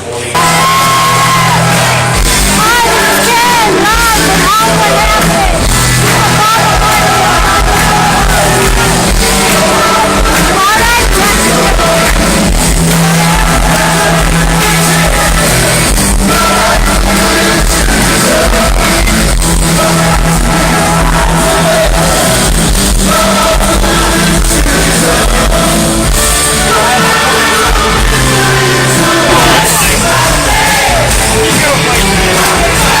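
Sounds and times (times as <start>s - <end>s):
loud rock music with singing: 0.0s - 33.0s
crowd shouting: 0.3s - 33.0s.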